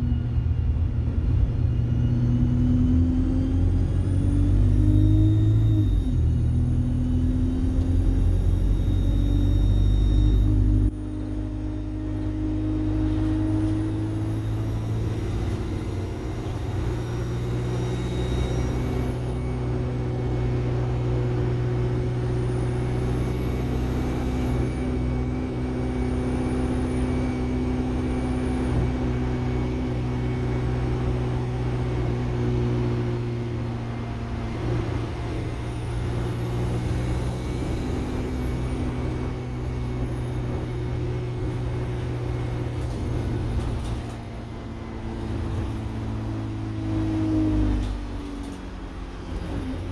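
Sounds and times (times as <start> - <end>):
bus engine running: 0.0 - 49.9
turbocharger whine: 0.0 - 49.9.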